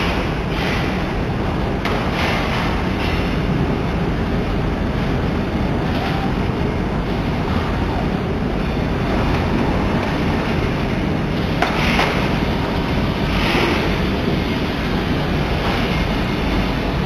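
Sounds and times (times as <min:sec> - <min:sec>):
loud machinery noise: 0:00.0 - 0:17.0.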